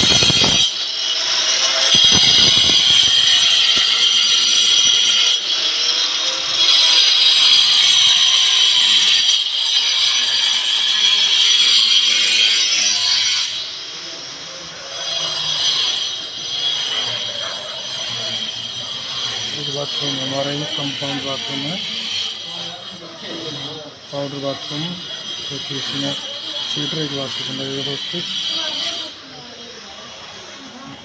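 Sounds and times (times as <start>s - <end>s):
faint work noise: 0.0s - 31.0s
power cutter cutting masonry: 0.0s - 31.0s.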